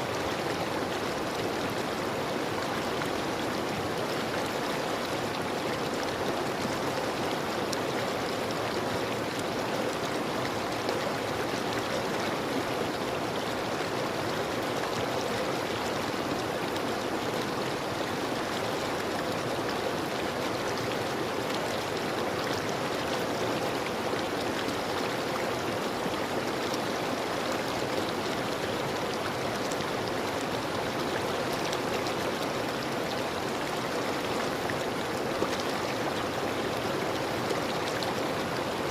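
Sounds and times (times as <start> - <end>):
river water flowing over rocks: 0.0 - 38.9.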